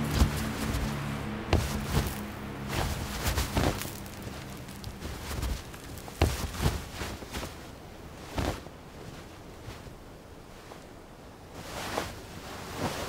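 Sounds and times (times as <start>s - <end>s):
bodies rolling on dry grass: 0.0s - 13.0s.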